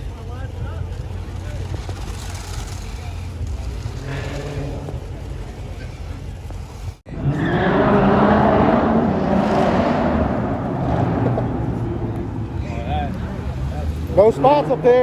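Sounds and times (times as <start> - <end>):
car engine rumbling low: 0.0 - 15.0
car engine running hard: 0.0 - 15.0.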